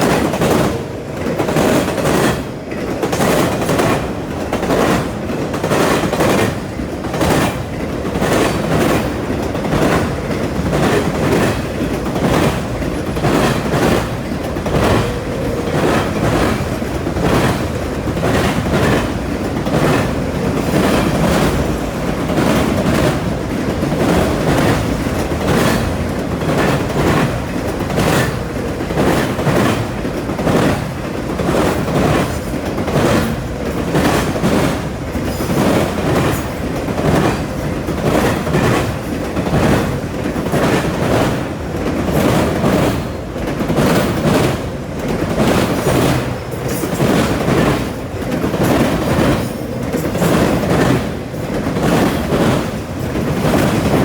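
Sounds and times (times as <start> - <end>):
freight train rumbling past: 0.0 - 54.0
wheels clacking over rail joints: 0.0 - 54.0.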